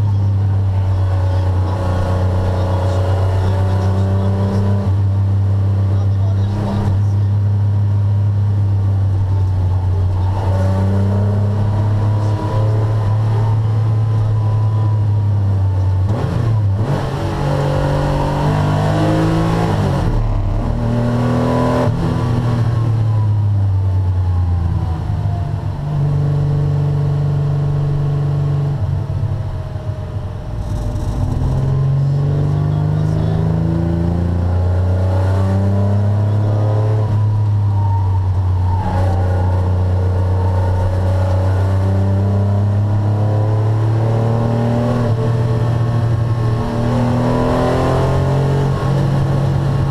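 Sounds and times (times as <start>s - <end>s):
car engine accelerating from inside: 0.0s - 49.9s.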